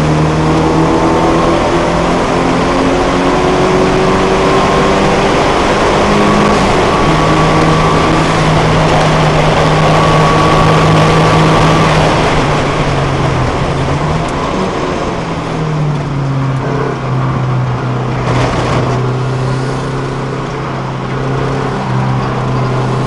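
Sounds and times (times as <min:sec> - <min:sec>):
car engine driven hard: 0:00.0 - 0:23.0
wind and road noise: 0:00.0 - 0:23.0.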